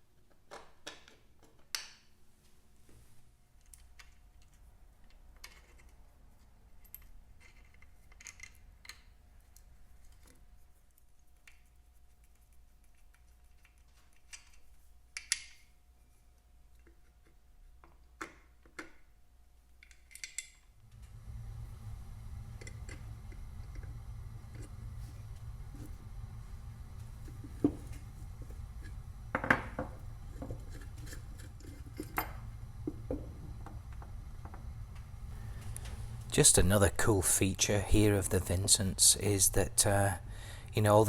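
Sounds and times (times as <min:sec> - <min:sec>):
faint low hum: 0:02.8 - 0:41.0.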